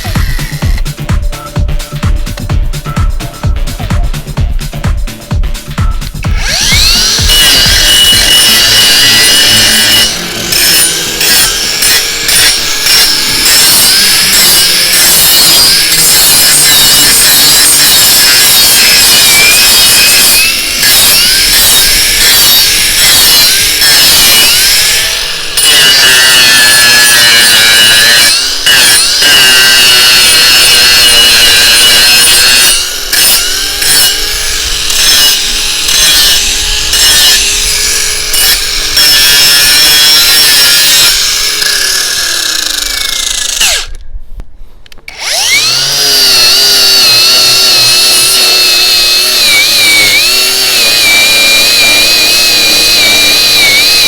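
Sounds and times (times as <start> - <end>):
angle grinder whining under load: 0.0 - 1.7, 6.0 - 44.2, 44.9 - 54.0.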